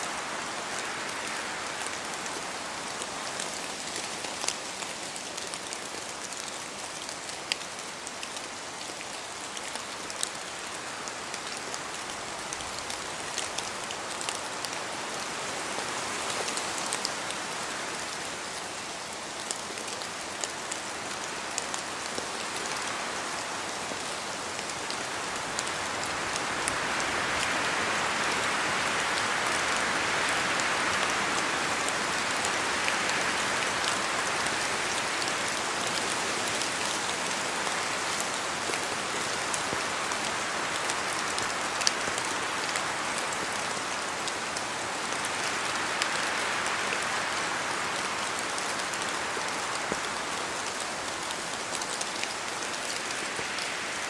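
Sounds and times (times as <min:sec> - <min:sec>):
rain: 0:00.0 - 0:54.0
wind: 0:00.0 - 0:54.0.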